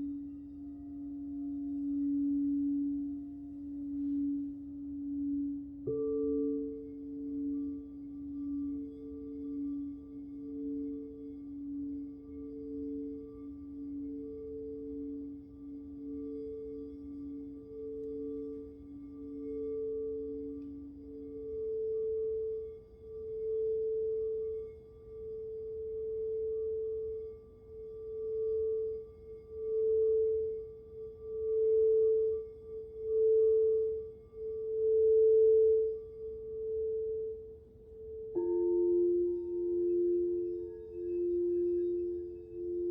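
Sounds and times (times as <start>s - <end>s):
crystal singing bowl tone: 0.0s - 42.9s.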